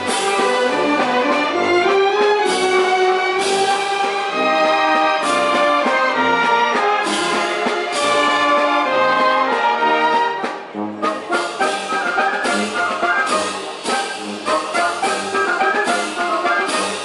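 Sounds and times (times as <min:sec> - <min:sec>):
orchestra playing: 0:00.0 - 0:17.0.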